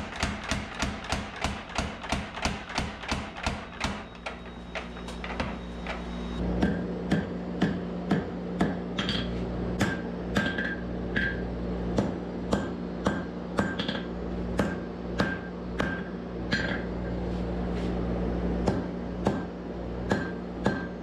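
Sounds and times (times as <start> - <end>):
hammer striking metal on anvil: 0.0 - 6.0, 6.6 - 16.9, 18.6 - 21.0.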